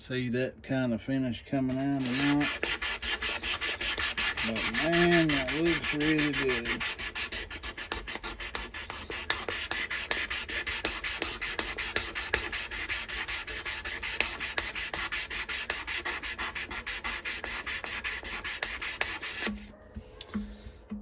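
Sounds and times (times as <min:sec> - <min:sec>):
sandpaper rubbing on knife blade: 0:01.6 - 0:19.7.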